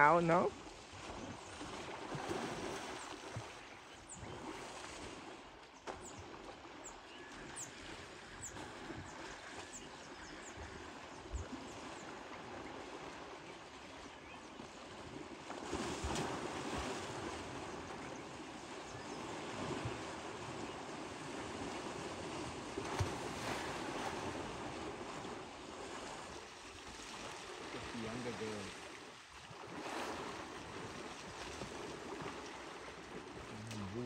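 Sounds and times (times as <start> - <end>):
water sloshing and splashing: 0.0 - 34.0.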